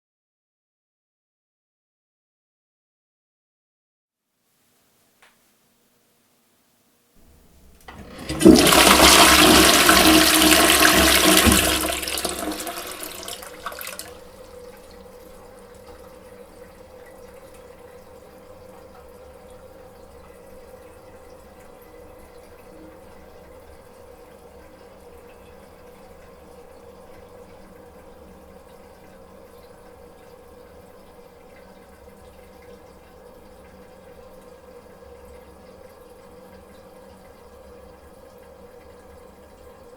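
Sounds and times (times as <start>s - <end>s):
toilet flushing: 7.2s - 39.9s.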